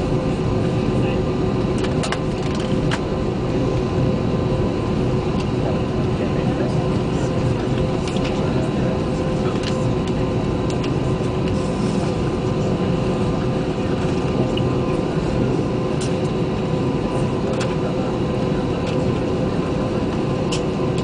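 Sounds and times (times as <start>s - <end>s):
cabin air conditioning: 0.0s - 21.0s
jet engines idling hum: 0.0s - 21.0s.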